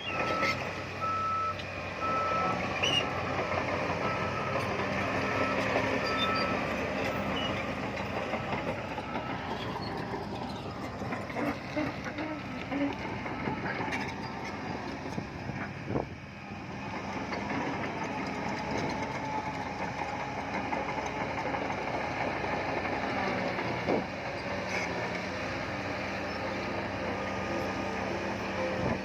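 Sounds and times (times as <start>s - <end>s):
diesel earthmoving machinery running: 0.0s - 29.0s.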